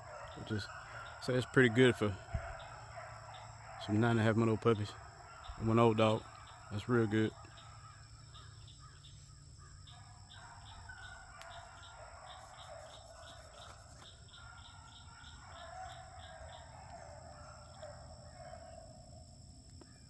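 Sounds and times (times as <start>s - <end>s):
distant dogs baying: 0.0s - 20.0s.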